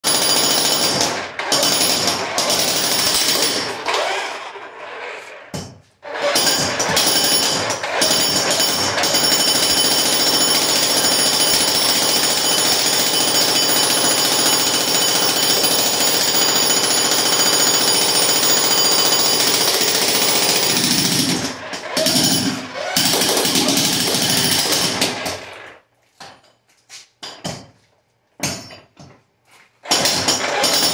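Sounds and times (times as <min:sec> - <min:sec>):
jackhammer hammering concrete: 0:00.0 - 0:04.5, 0:05.5 - 0:25.6, 0:29.8 - 0:30.9.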